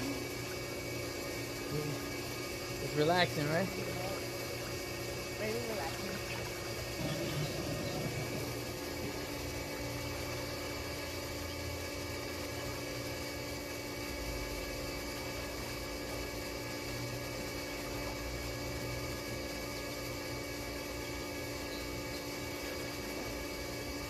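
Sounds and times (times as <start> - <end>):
pool pump motor hum: 0.0 - 24.0.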